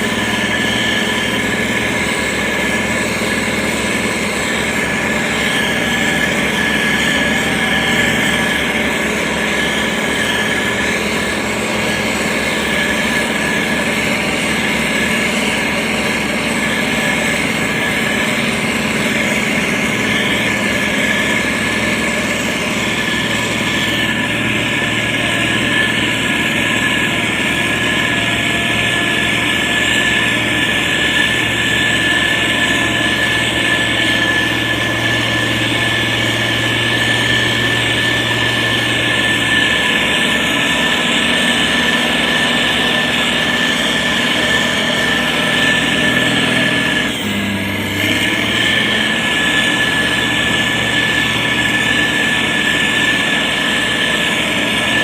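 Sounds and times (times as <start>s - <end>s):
diesel engine running: 0.0s - 55.0s
high whine: 0.0s - 55.0s.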